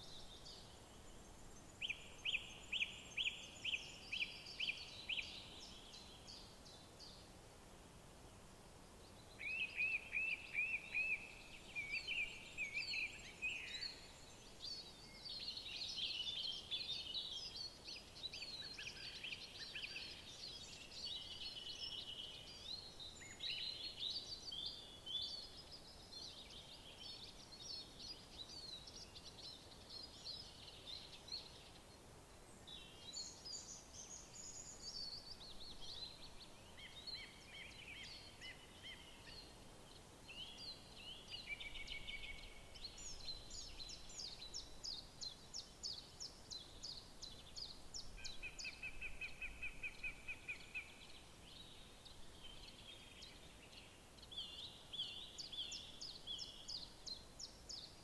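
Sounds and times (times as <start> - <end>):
faint steady background hiss: 0.0 - 58.0
songbirds singing: 8.9 - 58.0.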